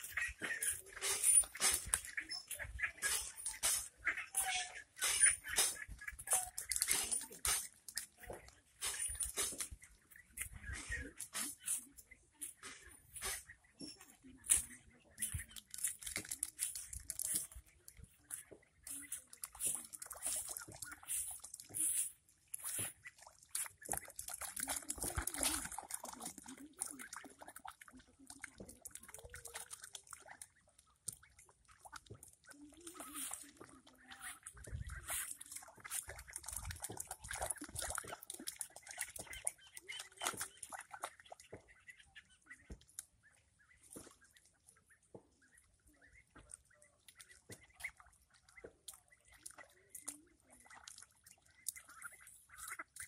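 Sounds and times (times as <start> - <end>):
ducks quacking: 0.0 - 53.0
rustles and splashes in water: 0.0 - 53.0.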